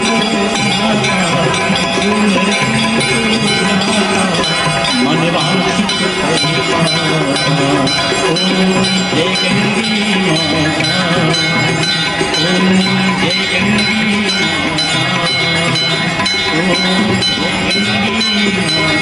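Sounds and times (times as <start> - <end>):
person singing a devotional hymn: 0.0 - 19.0
temple bells ringing: 0.0 - 19.0.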